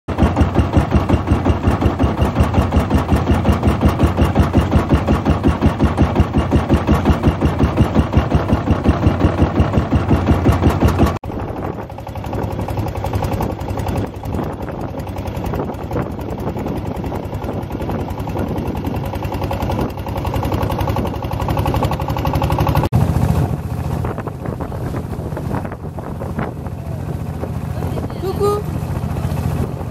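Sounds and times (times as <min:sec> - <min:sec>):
boat engine chugging: 0:00.1 - 0:29.9.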